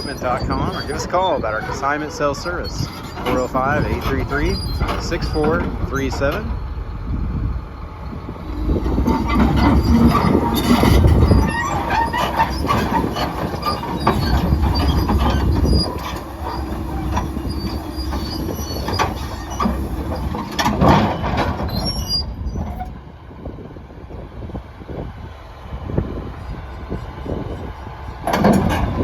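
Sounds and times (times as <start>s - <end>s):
steel tracks clanking and squealing: 0.0s - 7.0s, 7.6s - 23.0s, 25.6s - 29.0s
diesel engine rumbling: 0.0s - 29.0s.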